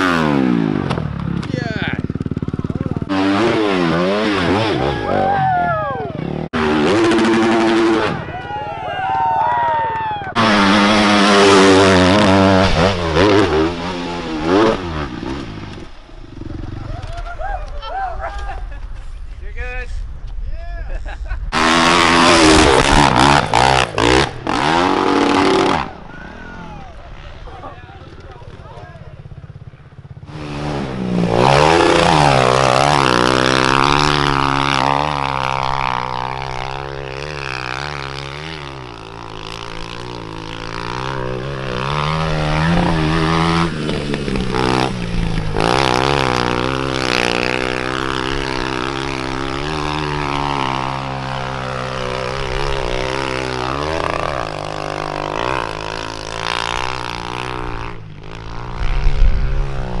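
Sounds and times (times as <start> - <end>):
dirt bike engine revving: 0.0 - 17.3, 21.5 - 60.0
rough low engine sound: 0.0 - 60.0.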